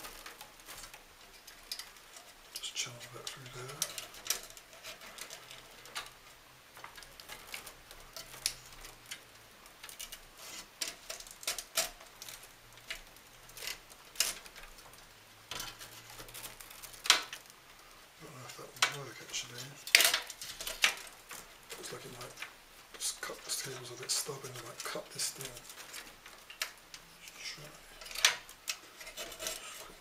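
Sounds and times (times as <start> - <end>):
cables clicking and rustling: 0.0 - 30.0.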